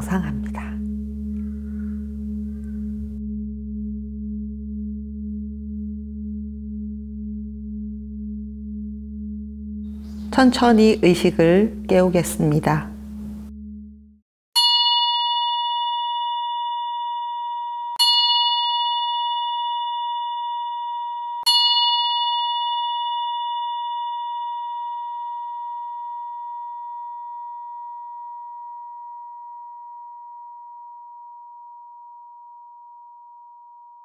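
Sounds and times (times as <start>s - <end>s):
singing bowl ringing: 0.0s - 34.0s.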